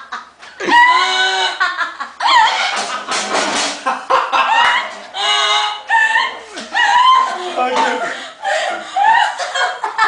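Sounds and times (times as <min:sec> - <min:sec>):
people laughing: 0:00.0 - 0:10.0.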